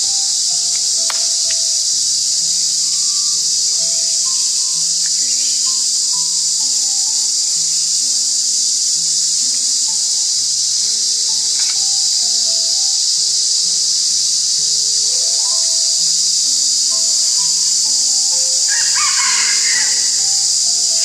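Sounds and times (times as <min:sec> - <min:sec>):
insect chorus buzzing: 0:00.0 - 0:21.0.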